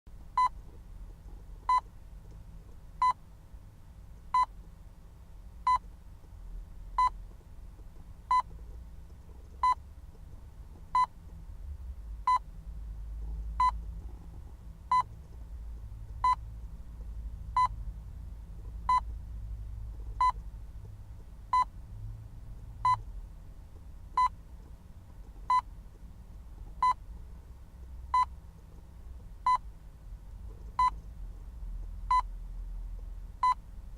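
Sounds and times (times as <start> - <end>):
faint low rumble: 0.1 - 33.9.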